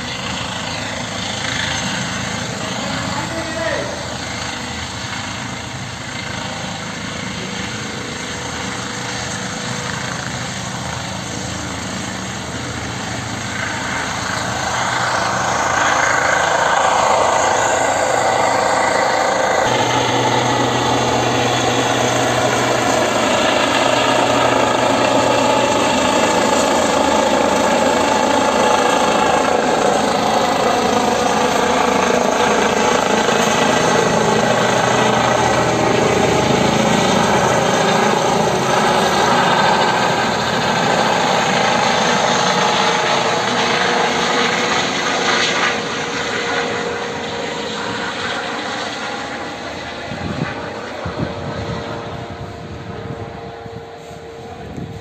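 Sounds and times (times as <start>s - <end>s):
helicopter turbines and rotor: 0.0s - 55.0s.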